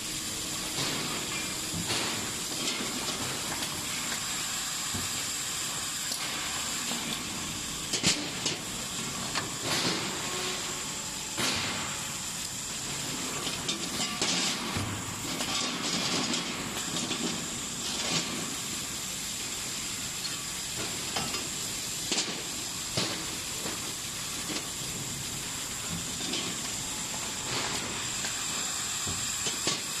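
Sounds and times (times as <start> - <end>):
welding machine hiss: 0.0 - 30.0.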